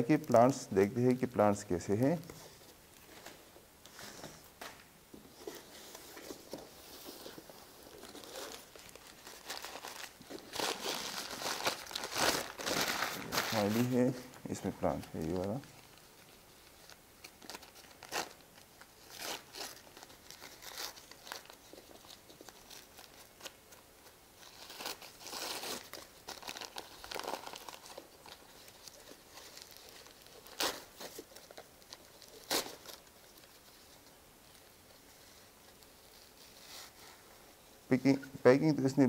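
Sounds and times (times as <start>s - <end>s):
packing paper crinkling: 0.0s - 37.3s.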